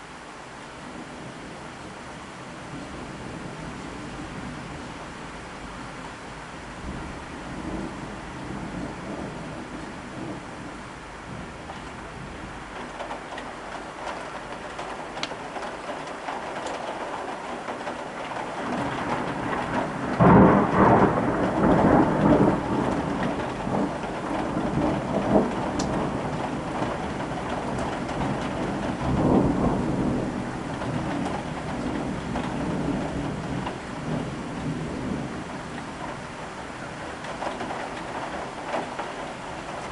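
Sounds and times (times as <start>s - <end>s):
steady rain: 0.0s - 39.9s
thunder: 6.8s - 36.4s, 37.0s - 39.9s.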